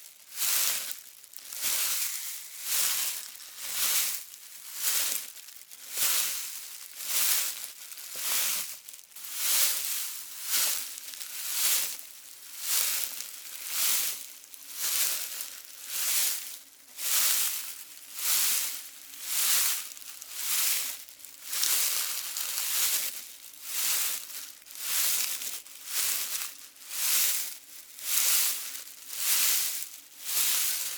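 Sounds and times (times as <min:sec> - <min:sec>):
footsteps crunching dry leaves: 0:00.2 - 0:30.9.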